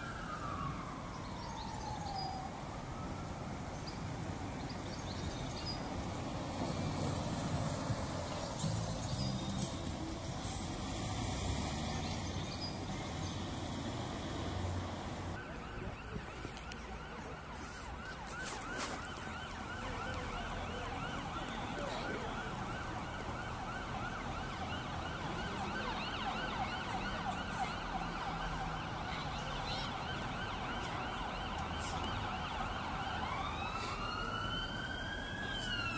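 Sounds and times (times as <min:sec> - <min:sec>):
emergency vehicle siren: 0:00.0 - 0:35.9
road traffic: 0:00.0 - 0:35.9.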